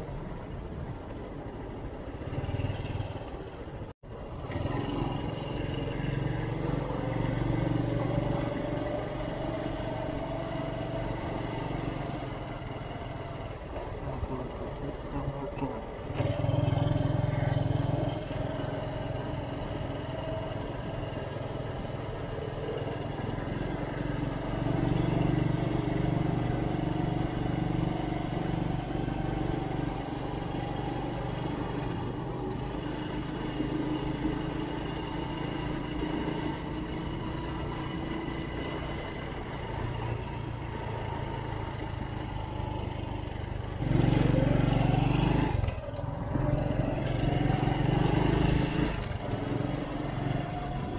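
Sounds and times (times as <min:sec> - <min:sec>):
motorcycle engine revving: 0:04.4 - 0:50.9.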